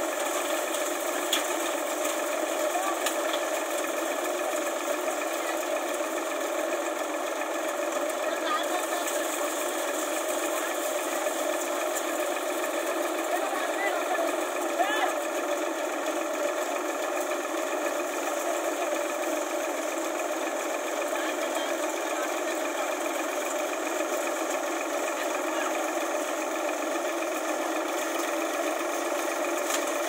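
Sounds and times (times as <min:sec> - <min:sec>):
thresher whirring: 0:00.0 - 0:30.0
tractor diesel engine running: 0:00.0 - 0:30.0.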